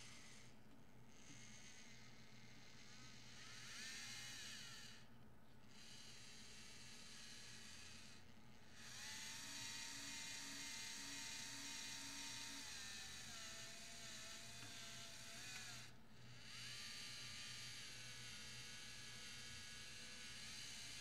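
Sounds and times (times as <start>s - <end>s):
servo motors whirring: 2.8s - 5.0s, 5.8s - 21.0s.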